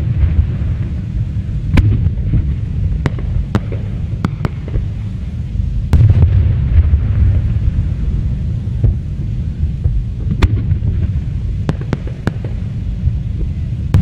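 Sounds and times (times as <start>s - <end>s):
fireworks rumbling: 0.0s - 14.0s
sharp fireworks bangs: 0.0s - 14.0s.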